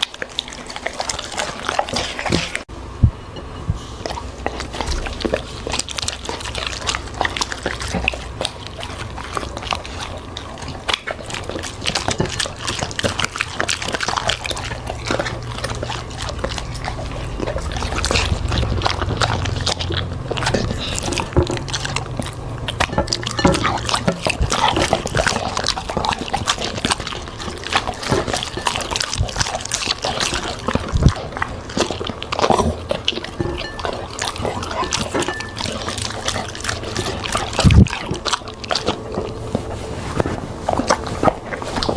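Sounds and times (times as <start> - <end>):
dog chewing and crunching food: 0.0 - 41.9.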